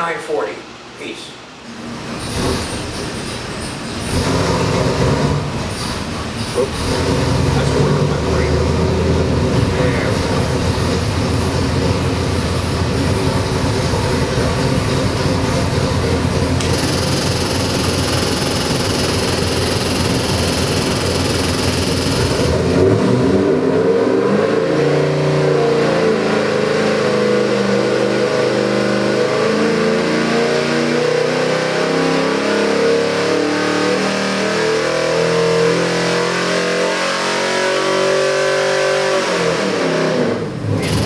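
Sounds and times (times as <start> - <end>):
engine running and revving: 4.0 - 41.0.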